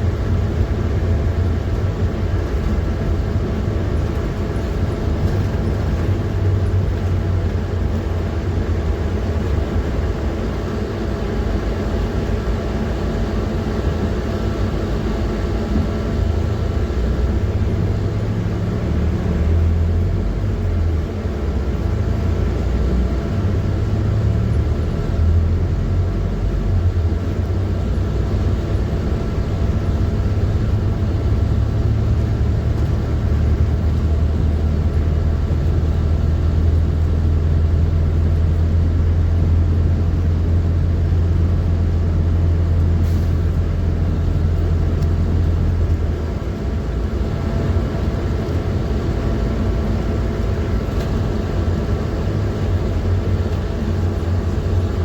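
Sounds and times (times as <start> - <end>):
bus engine drone: 0.0 - 55.0
road rumble: 0.0 - 55.0.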